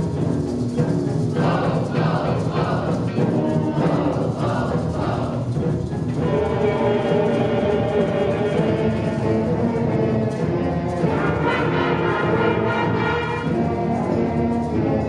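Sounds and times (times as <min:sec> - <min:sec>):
concert band playing chords: 0:00.0 - 0:15.0.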